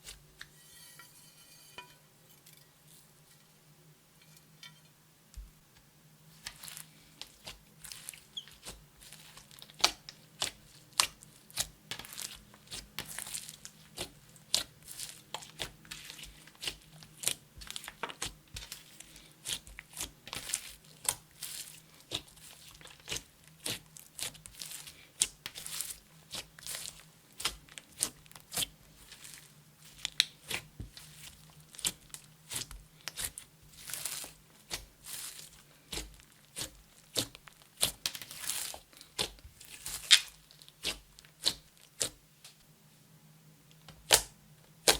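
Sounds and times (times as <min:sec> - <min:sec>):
slime squishing with sticky pops: 0:06.4 - 0:42.2, 0:43.8 - 0:44.9.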